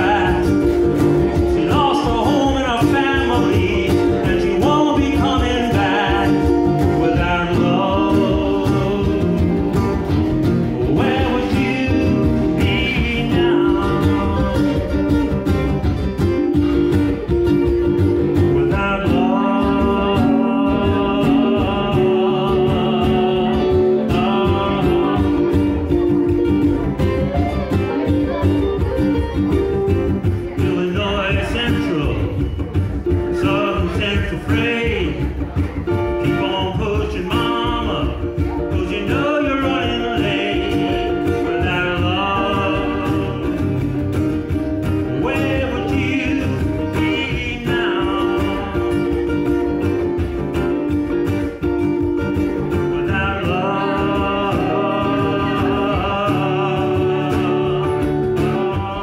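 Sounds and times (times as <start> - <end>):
guitar accompanied singing: 0.0 - 59.0.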